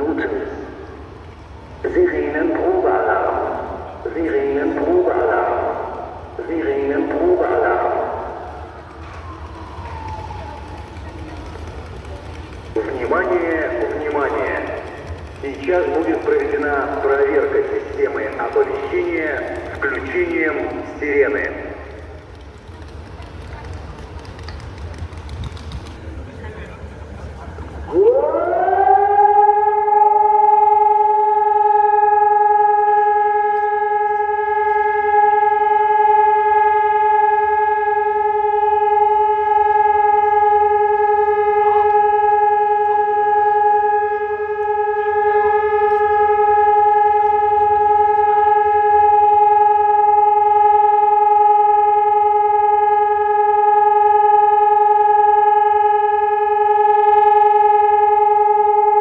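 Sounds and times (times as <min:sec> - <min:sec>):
electronic siren steady tone: 0:00.0 - 0:23.6, 0:27.7 - 0:59.0.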